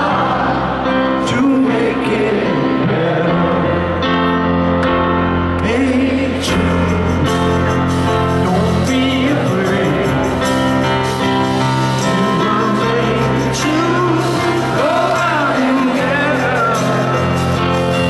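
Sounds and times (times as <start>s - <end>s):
live piano and band music: 0.0s - 18.0s
man singing lead vocal: 0.0s - 18.0s.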